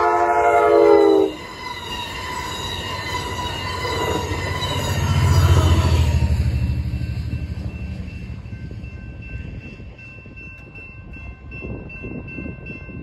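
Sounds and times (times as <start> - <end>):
railroad crossing bell ringing: 0.0 - 13.0
train rumbling on rails: 0.0 - 13.0.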